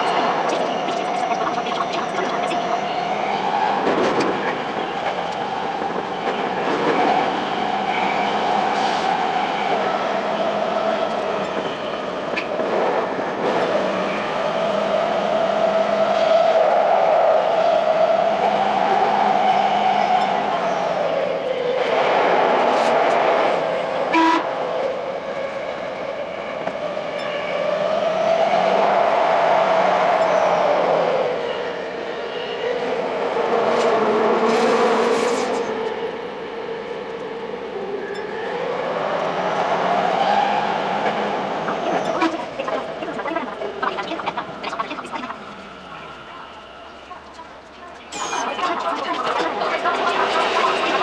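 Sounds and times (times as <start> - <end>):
electric train rolling and humming: 0.0 - 51.0.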